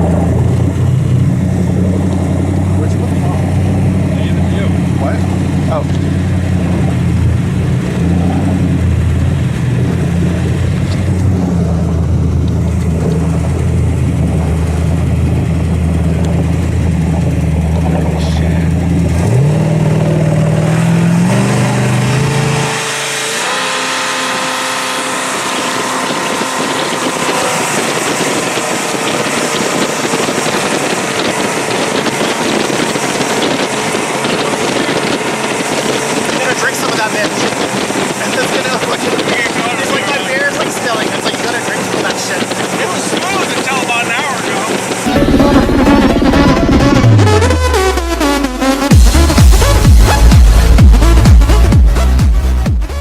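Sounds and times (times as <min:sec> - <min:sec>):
rushing wind: 0:00.0 - 0:48.2, 0:48.8 - 0:52.6
rushing water: 0:00.0 - 0:52.3
jet boat engine: 0:00.0 - 0:53.0.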